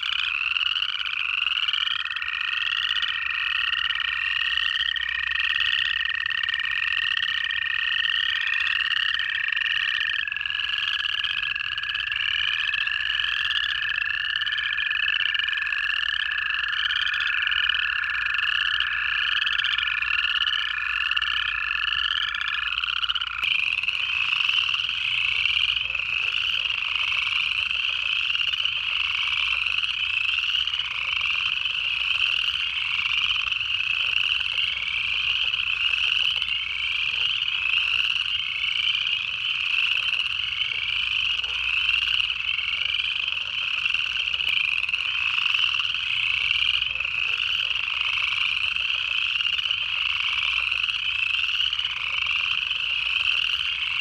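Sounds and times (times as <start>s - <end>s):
chorus of frogs trilling: 0.0s - 54.0s.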